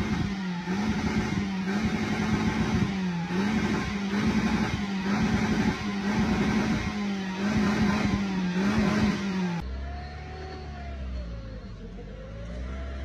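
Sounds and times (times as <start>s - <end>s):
car engine running: 0.0s - 13.0s
car engine whine: 0.0s - 13.0s.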